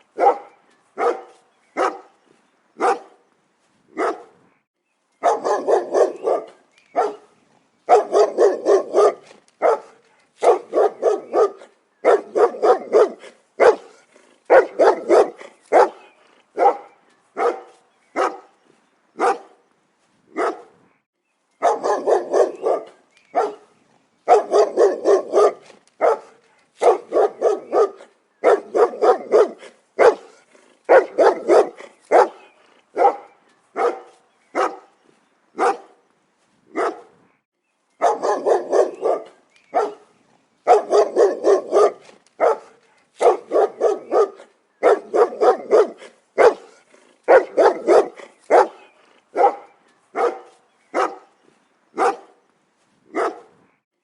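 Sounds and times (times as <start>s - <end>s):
dog barking: 0.0s - 2.2s, 2.8s - 3.2s, 4.0s - 4.4s, 5.2s - 7.3s, 7.9s - 18.5s, 19.2s - 19.6s, 20.4s - 20.8s, 21.6s - 23.7s, 24.3s - 34.9s, 35.6s - 36.0s, 36.7s - 37.1s, 38.0s - 51.3s, 52.0s - 52.4s, 53.1s - 53.6s.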